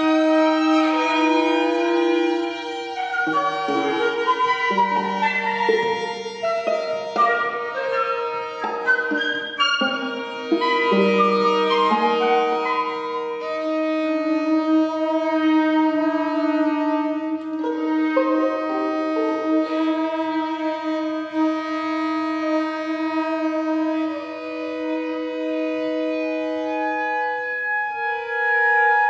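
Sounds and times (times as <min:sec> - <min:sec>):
bass clarinet: 0:00.0 - 0:29.0
flute: 0:00.0 - 0:29.0
viola: 0:00.0 - 0:29.0
violin: 0:00.0 - 0:29.0.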